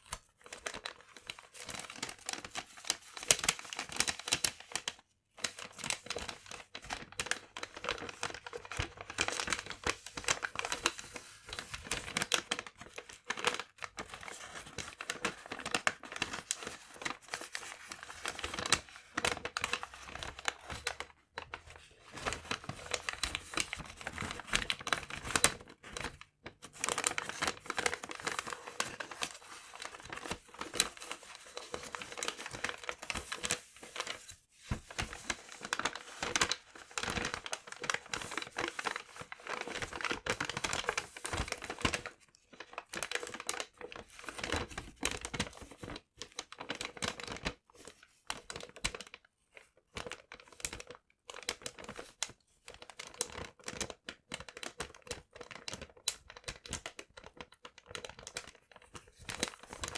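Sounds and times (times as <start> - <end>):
paper being crumpled: 0.0 - 59.9.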